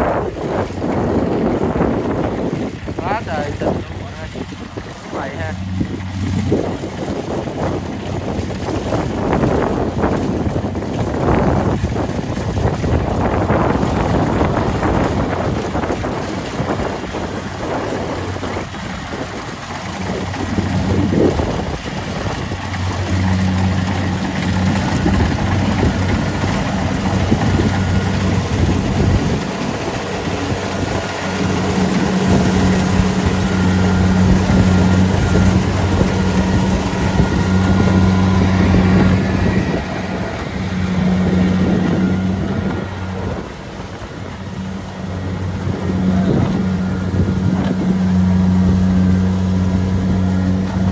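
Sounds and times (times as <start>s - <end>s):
combine harvester engine droning: 0.0s - 50.9s.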